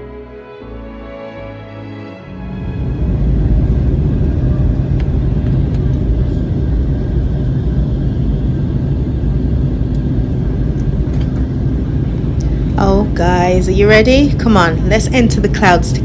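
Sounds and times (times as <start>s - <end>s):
jet cabin rumble: 2.4s - 16.0s.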